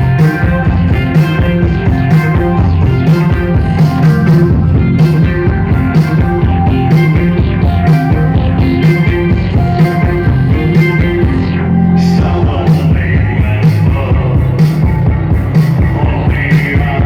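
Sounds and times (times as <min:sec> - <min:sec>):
drum beat: 0:00.0 - 0:11.5, 0:12.2 - 0:17.0
live band playing: 0:00.0 - 0:17.0.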